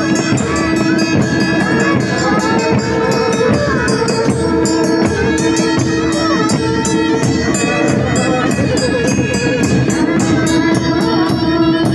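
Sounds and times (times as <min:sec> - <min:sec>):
fast drum strokes: 0:00.0 - 0:11.9
long pipe-like tones: 0:00.0 - 0:11.9.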